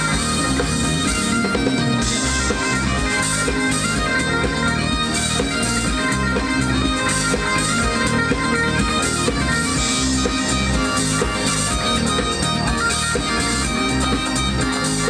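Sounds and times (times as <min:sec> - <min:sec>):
music with a steady beat: 0:00.0 - 0:15.0.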